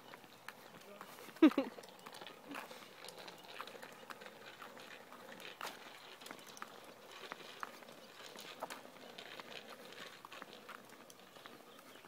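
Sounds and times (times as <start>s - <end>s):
footsteps on paved path: 0.0s - 12.0s.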